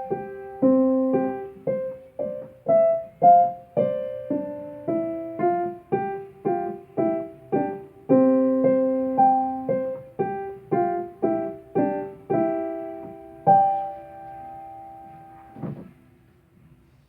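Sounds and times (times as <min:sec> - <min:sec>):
slow gentle piano melody: 0:00.0 - 0:17.0.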